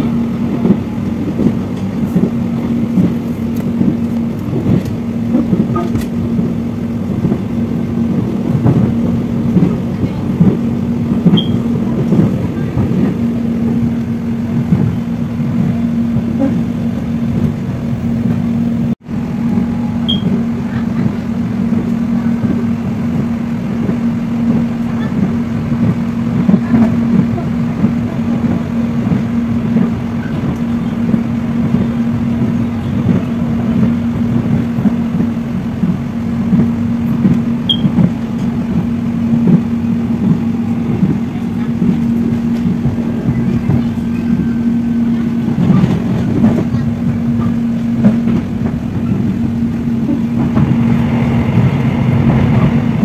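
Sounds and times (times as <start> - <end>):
train wheels rumbling on track: 0.0 - 53.0.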